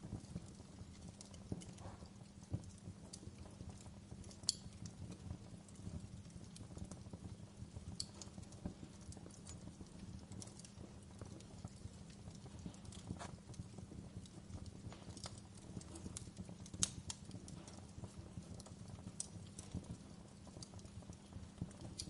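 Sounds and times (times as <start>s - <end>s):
fire crackling and popping: 0.0s - 22.0s
fire rumbling in fireplace: 0.0s - 22.0s.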